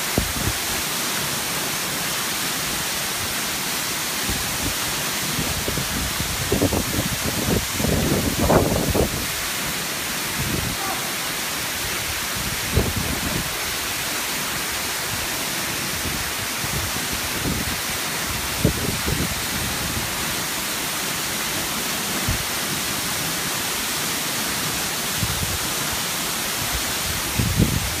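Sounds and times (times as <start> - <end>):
waterfall rushing onto rocks: 0.0 - 28.0.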